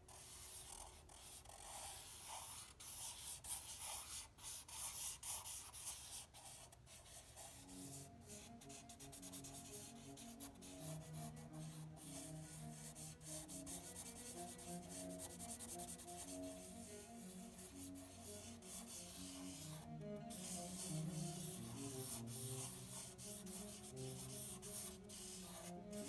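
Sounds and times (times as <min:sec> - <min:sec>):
faint music of low notes: 0:00.1 - 0:26.0
marker scratching on paper: 0:00.1 - 0:26.0.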